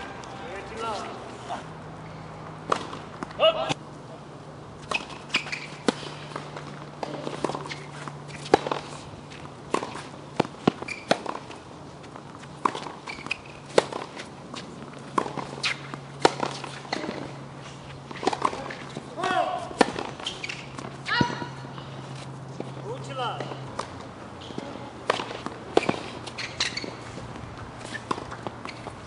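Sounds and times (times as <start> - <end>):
tennis ball bouncing: 2.0 - 3.4, 4.8 - 29.0
racket striking tennis ball: 2.6 - 3.8, 4.8 - 17.4, 18.0 - 29.0.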